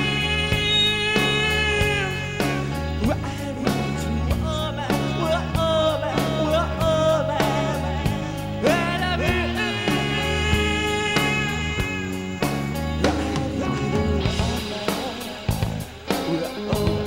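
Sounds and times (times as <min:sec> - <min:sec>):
live rock band playing: 0:00.0 - 0:17.0
person singing lead vocals: 0:00.0 - 0:17.0.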